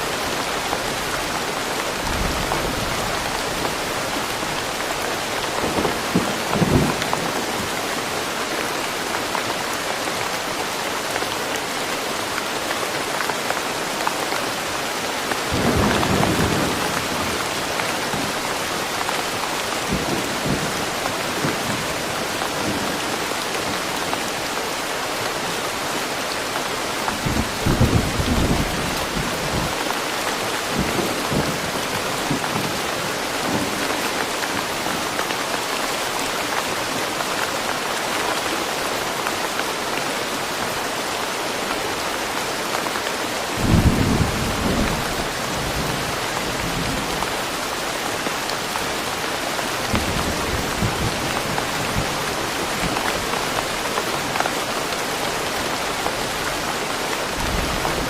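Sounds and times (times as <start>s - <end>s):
steady rain in woodland: 0.0s - 58.0s.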